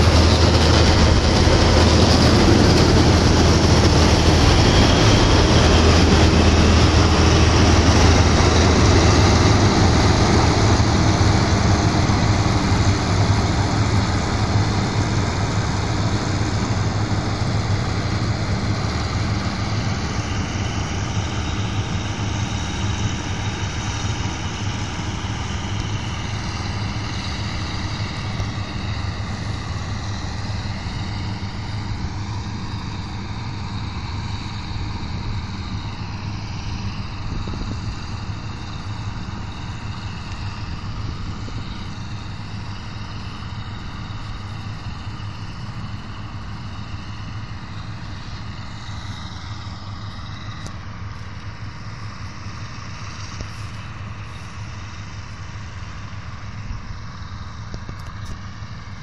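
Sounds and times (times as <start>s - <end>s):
combine harvester humming: 0.0s - 59.0s.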